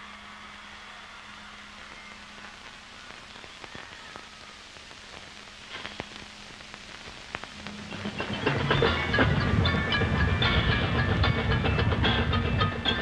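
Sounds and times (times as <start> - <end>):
faint tape hiss: 0.0 - 13.0.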